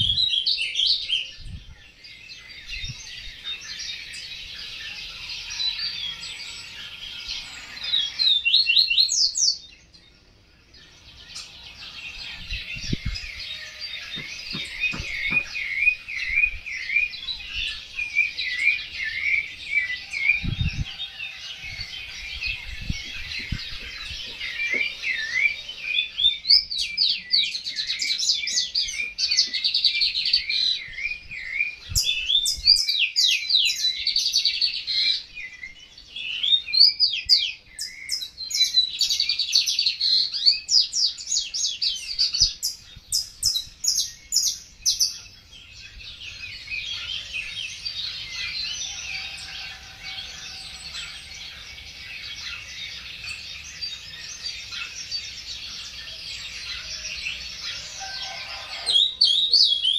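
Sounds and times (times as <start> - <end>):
chatter of many small birds: 0.0 - 59.9
songbirds chirping trills: 0.0 - 59.9.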